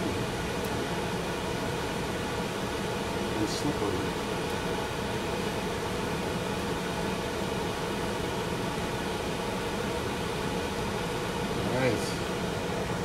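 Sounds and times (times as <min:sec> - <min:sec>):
kitchen exhaust fan running: 0:00.0 - 0:13.0.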